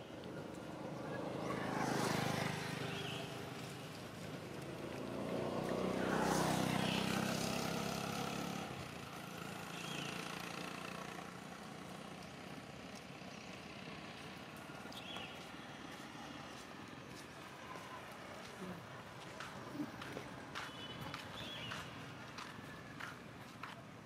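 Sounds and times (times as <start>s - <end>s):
motor vehicle passing: 0.6s - 23.7s.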